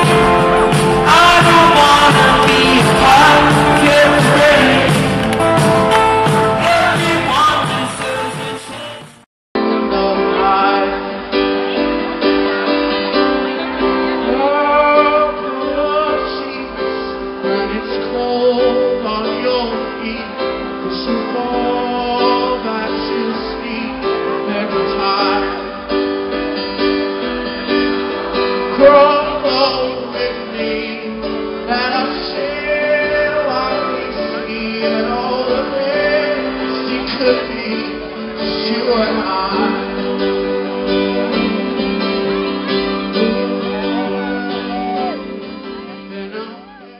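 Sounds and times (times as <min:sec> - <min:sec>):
live band with singing and guitar: 0:00.0 - 0:46.9.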